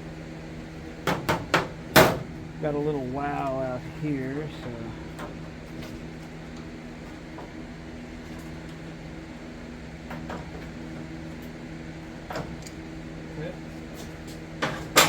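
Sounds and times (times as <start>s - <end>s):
machine hum: 0.0s - 14.6s.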